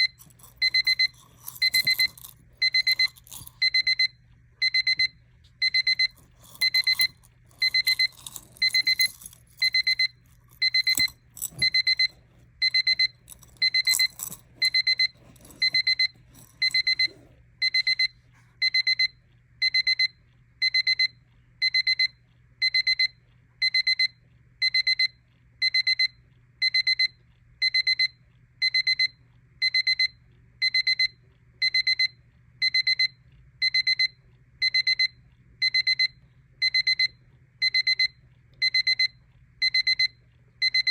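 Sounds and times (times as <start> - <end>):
alarm clock beeping: 0.0 - 40.9.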